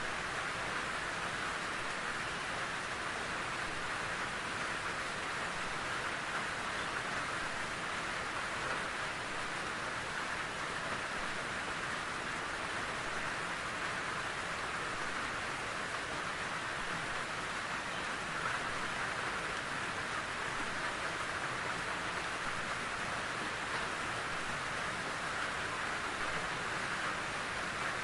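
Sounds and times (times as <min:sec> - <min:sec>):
rain falling in forest: 0:00.0 - 0:28.0.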